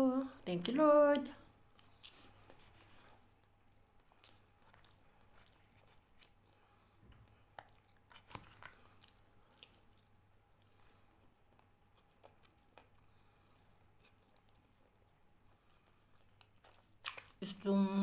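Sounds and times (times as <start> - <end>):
faint low hum: 0.0 - 18.0
quiet chewing: 0.4 - 17.7.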